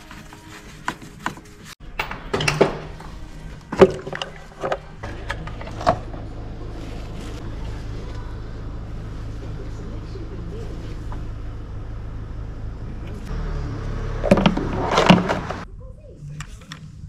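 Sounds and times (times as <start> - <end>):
steady low hum: 2.8 - 17.0.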